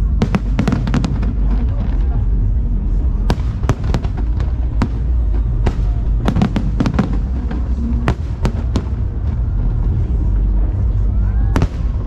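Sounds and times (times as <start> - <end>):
fireworks bangs and cracks: 0.0 - 10.8, 11.5 - 12.0
low rumble of fireworks: 0.0 - 12.0.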